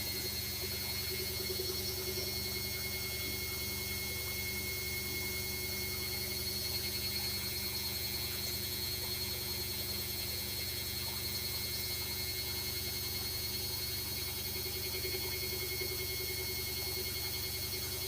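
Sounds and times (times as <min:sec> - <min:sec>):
washing machine running: 0:00.0 - 0:18.0.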